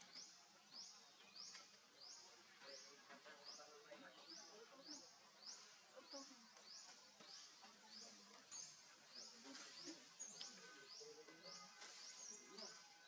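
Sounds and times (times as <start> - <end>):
jungle ambience: 0.0 - 13.0.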